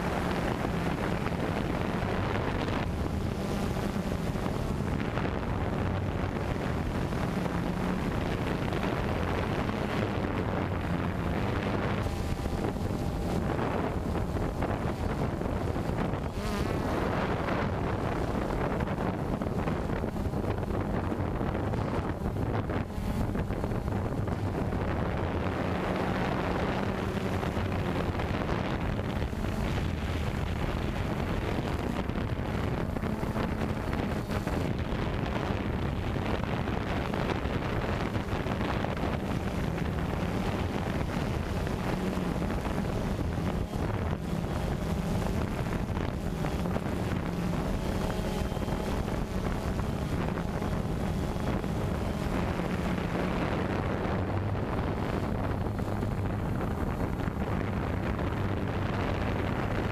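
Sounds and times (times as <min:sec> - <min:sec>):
drone propellers humming: 0:00.0 - 0:59.9
wind buffeting microphone: 0:00.0 - 0:59.9.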